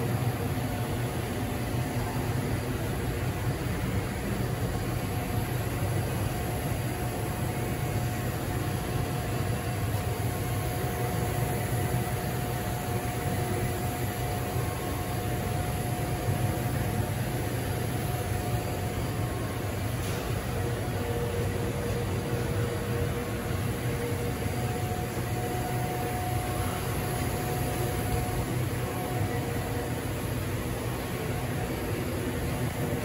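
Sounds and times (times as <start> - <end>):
faint steady whine: 0.0 - 33.0
machinery humming: 0.0 - 33.0.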